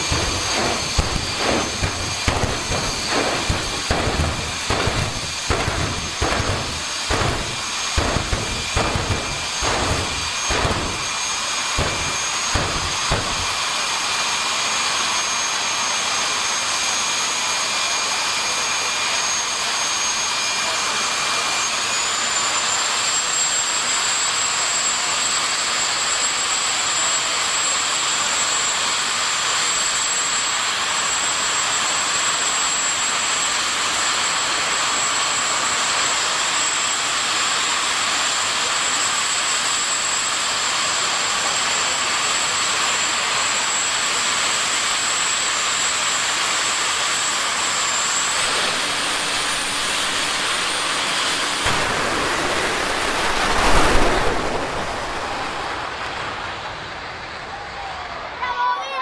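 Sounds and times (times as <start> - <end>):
jet turbine engine rushing and whining: 0.0 - 58.4.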